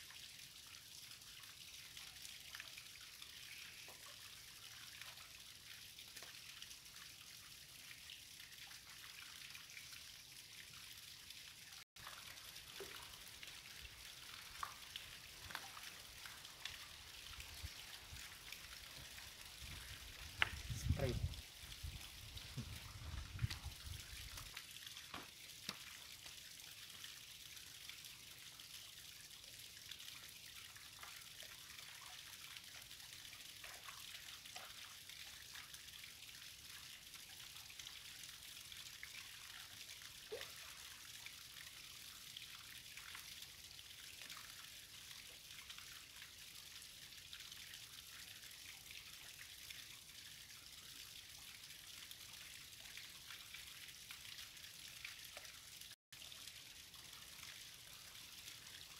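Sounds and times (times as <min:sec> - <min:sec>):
trickle of flowing water: 0:00.0 - 0:58.9
water drips and splashes: 0:00.0 - 0:58.9.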